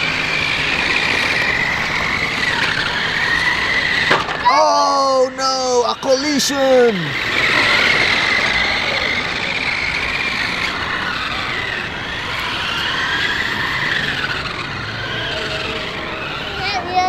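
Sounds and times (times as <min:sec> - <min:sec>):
steady rough noise: 0:00.0 - 0:17.0
toy car electric motor whine: 0:00.0 - 0:17.0.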